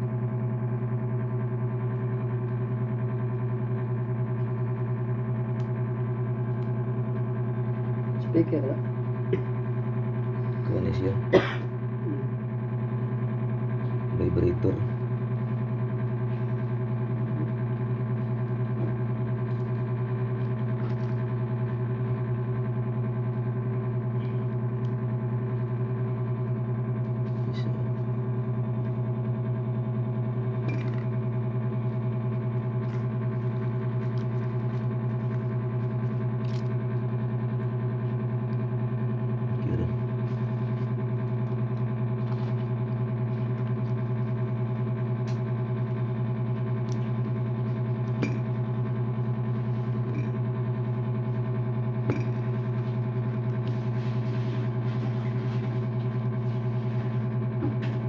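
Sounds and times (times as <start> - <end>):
low electrical buzz: 0.0 - 58.0.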